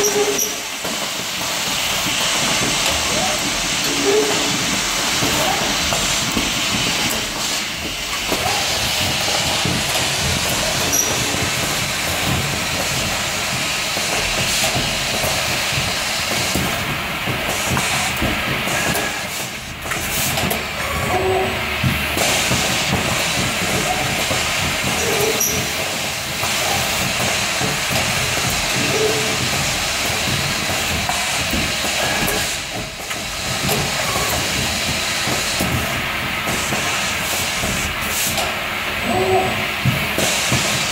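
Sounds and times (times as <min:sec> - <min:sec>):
compressed air hiss: 0:00.0 - 0:40.9.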